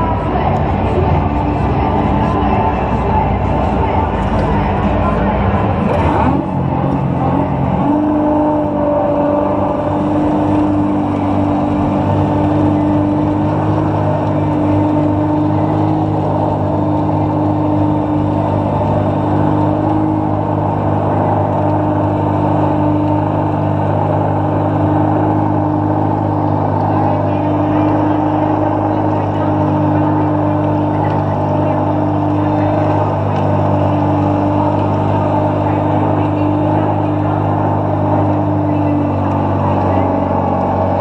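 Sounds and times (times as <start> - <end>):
ice resurfacer engine droning: 0.0 - 41.0.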